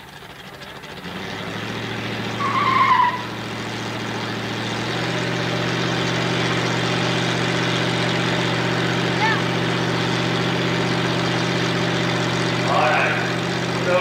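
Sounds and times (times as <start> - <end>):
race engines droning: 0.0 - 14.0.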